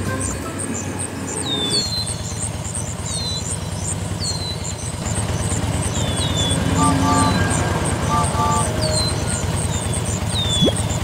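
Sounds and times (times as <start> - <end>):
small engine running: 0.0 - 11.0
high falling chirp: 0.2 - 11.0.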